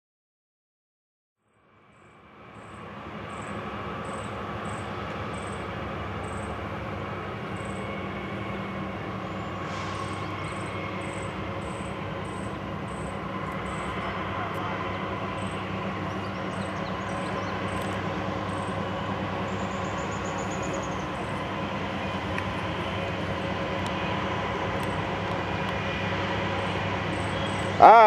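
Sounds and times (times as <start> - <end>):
diesel locomotive engine drone: 1.4 - 28.0.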